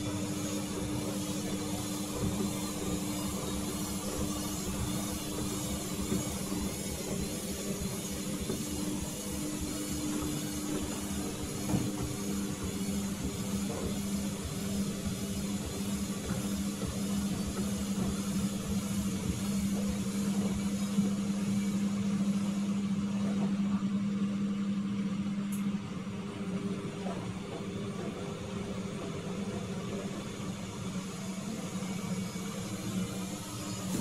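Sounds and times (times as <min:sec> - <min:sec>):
washer-dryer hum: 0:00.0 - 0:34.0.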